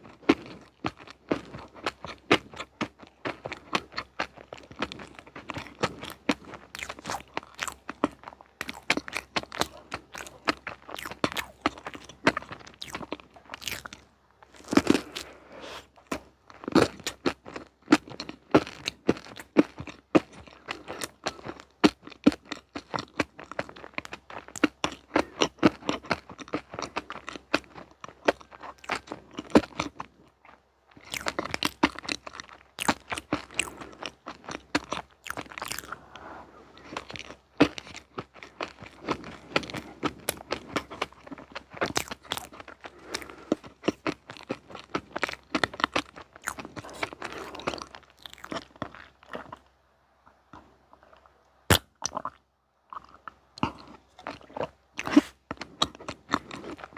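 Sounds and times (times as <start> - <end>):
crunchy chewing: 0.0 - 49.8, 50.5 - 56.9.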